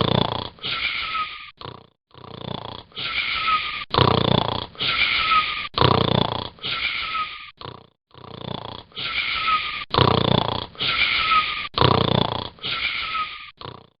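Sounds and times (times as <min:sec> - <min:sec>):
snoring with whistling wheeze: 0:00.0 - 0:14.0.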